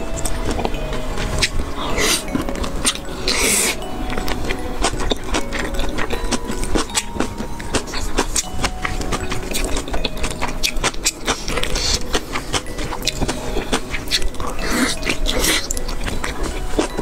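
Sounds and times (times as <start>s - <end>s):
breathy sounds: 0.0s - 17.0s
wet chewing mouth sounds: 1.4s - 17.0s.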